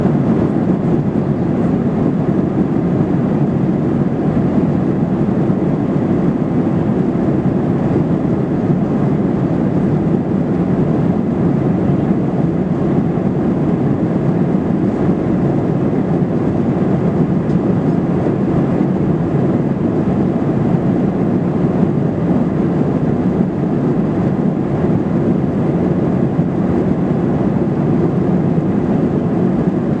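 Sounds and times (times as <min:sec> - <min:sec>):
airliner cabin engine rush: 0:00.0 - 0:30.0.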